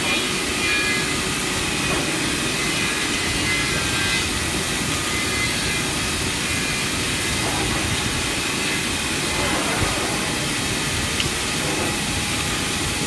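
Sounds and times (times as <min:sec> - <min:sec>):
cnc router rushing noise: 0:00.0 - 0:13.0.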